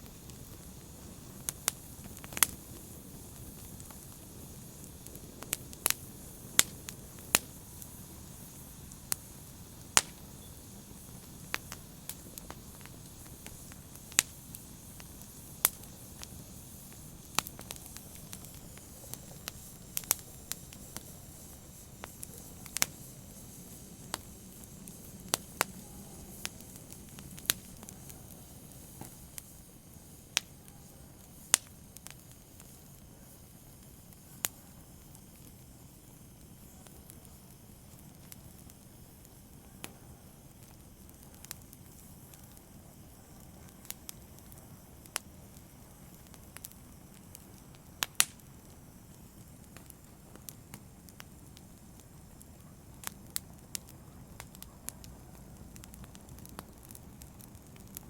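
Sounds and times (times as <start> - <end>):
fire crackling and popping: 0.0 - 58.0
fire hissing: 0.0 - 58.0.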